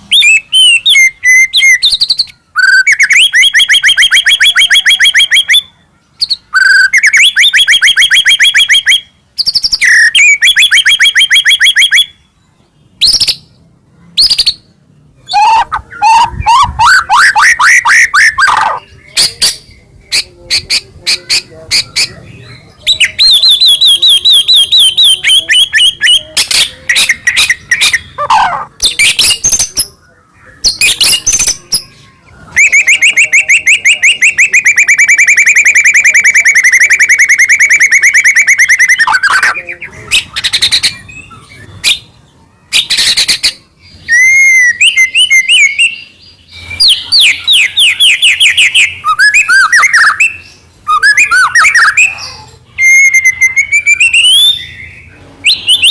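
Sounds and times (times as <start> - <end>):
songbird singing trills and whistles: 0.0 - 55.9.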